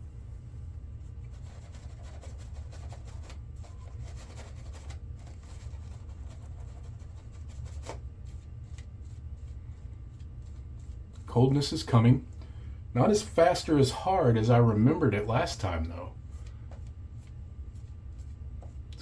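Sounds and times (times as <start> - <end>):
shaving brush swirling lather: 1.0 - 12.0, 13.0 - 19.0.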